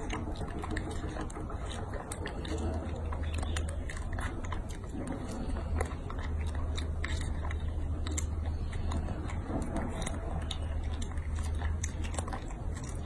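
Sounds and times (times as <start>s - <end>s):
monkey chewing wet smacks: 0.0s - 13.0s
steady low hum: 0.0s - 13.0s.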